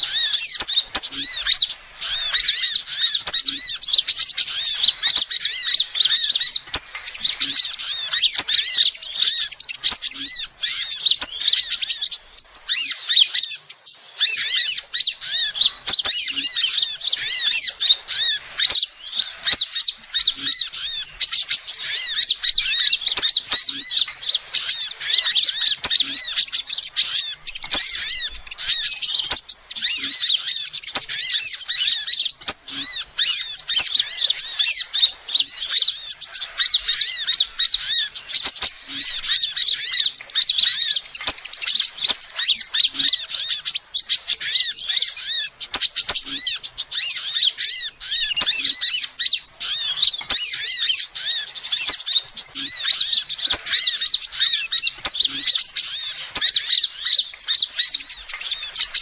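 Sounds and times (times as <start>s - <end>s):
bird high thin chirping: 0.0s - 59.0s.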